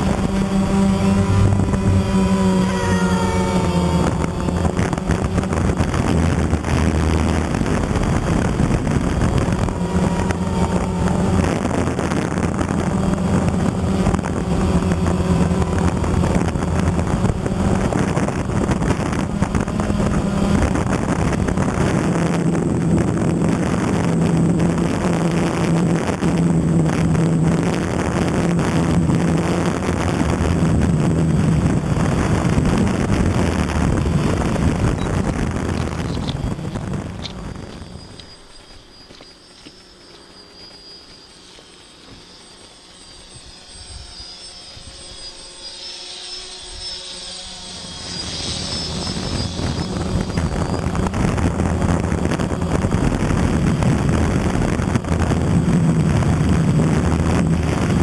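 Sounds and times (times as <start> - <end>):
drone propellers droning: 0.0 - 58.0
wind noise on microphone: 0.0 - 58.0.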